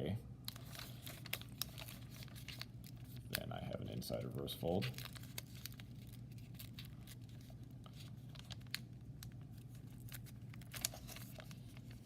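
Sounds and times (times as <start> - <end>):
steady low hum: 0.0 - 12.0
paper crackling as it's folded: 0.5 - 12.0.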